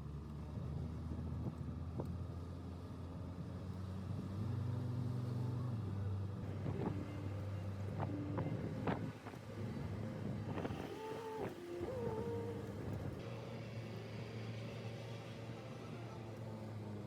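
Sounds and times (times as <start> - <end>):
car engine humming while driving: 0.0 - 17.0.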